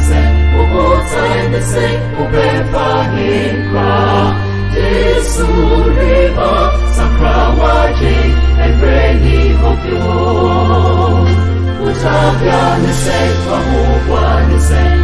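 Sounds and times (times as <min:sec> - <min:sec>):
band backing: 0:00.0 - 0:15.0
choir singing gospel music: 0:00.0 - 0:15.0
deep sustained bass notes: 0:00.0 - 0:15.0.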